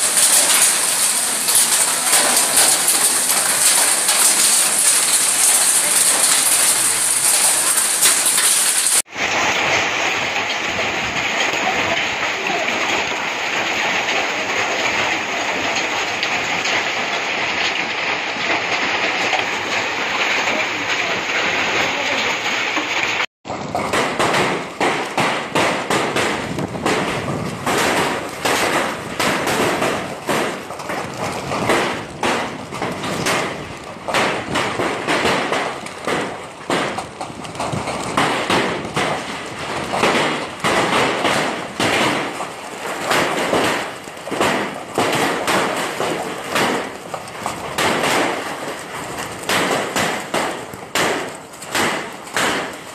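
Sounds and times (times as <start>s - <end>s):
hailstones clattering: 0.0s - 52.9s.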